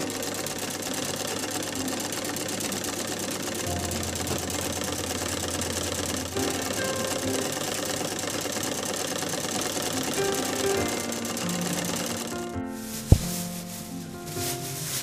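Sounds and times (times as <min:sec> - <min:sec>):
sewing machine stitching: 0:00.0 - 0:12.6.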